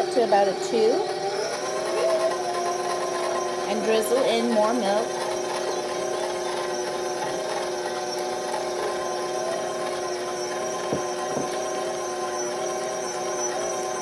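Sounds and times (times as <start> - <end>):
stand mixer motor hum: 0.0 - 14.0.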